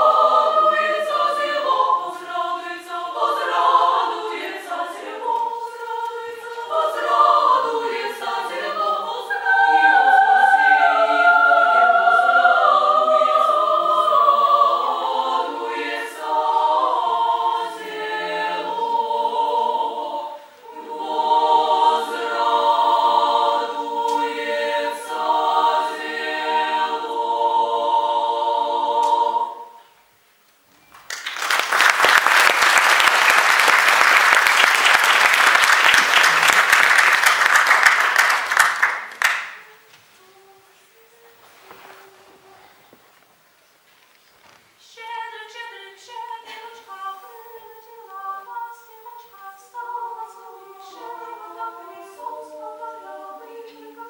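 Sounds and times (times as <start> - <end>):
female choir singing a cappella: 0.0 - 30.0, 37.9 - 42.9, 44.8 - 54.0.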